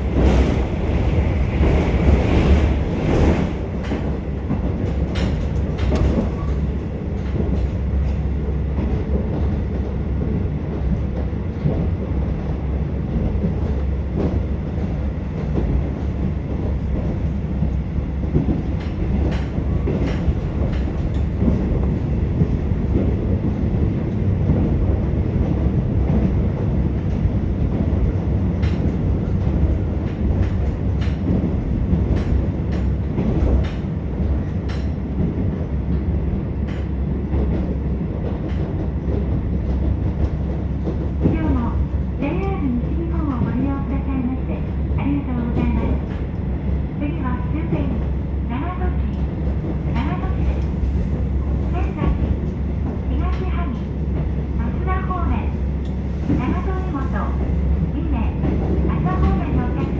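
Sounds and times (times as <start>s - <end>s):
wheel and rail rumble: 0.0s - 59.9s.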